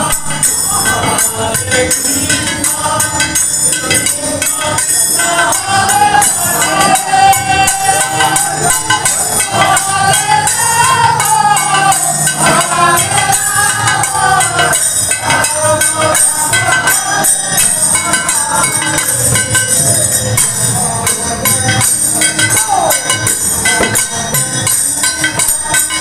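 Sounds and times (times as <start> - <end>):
barrel drums: 0.0 - 26.0.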